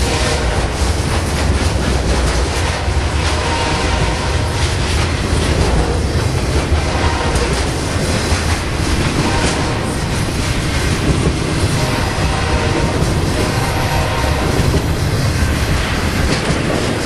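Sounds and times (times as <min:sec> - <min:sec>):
freight train rumbling past: 0:00.0 - 0:17.0
wheels clattering over rail joints: 0:00.0 - 0:17.0.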